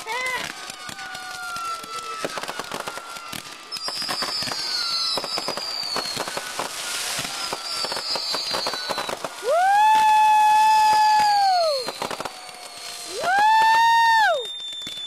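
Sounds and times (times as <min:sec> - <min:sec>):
fireworks cracks and bangs: 0:00.0 - 0:15.0
high falling firework whistles: 0:00.4 - 0:15.0.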